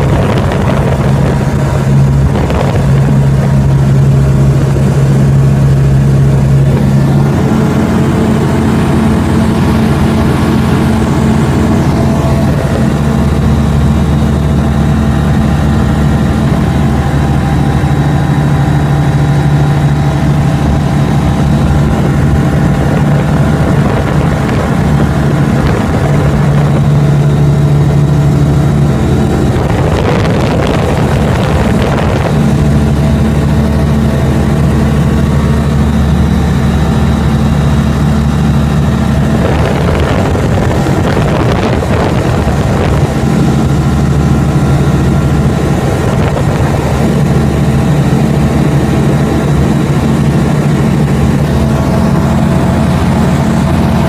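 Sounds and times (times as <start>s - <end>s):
light aircraft engine droning: 0.0s - 54.0s
rushing noise: 0.0s - 54.0s.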